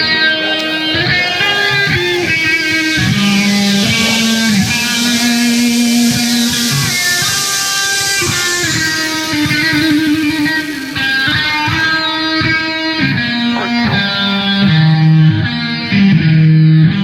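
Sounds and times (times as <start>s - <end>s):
steady bass: 0.0s - 7.6s, 8.5s - 17.0s
guitar-led background music: 0.0s - 17.0s.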